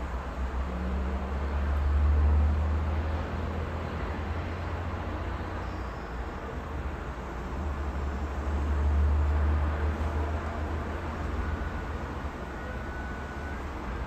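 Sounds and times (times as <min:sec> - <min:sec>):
road traffic hiss: 0:00.0 - 0:14.0.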